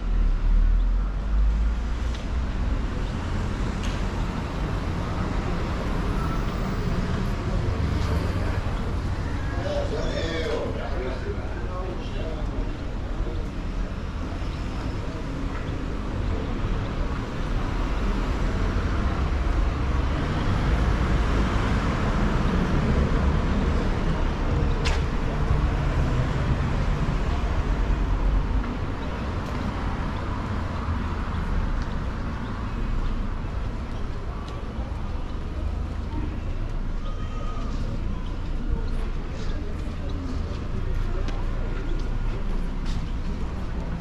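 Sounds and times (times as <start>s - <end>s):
passing cars road noise: 0.0s - 44.0s.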